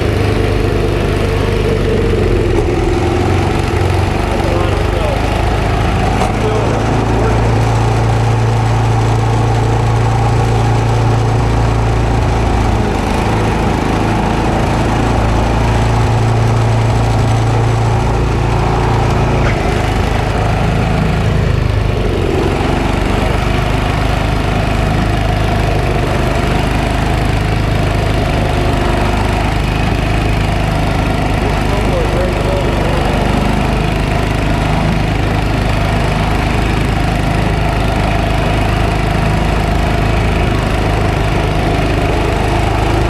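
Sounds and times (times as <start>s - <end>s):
snowblower engine running: 0.0s - 43.0s.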